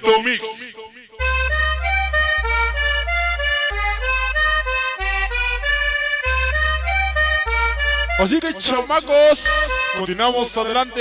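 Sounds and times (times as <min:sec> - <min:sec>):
cumbia music: 0:00.0 - 0:11.0.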